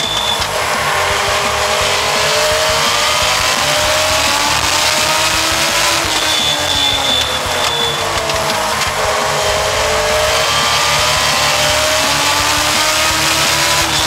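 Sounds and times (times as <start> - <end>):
race car engine at high revs: 0.0 - 14.0
thin high whine: 0.0 - 14.0.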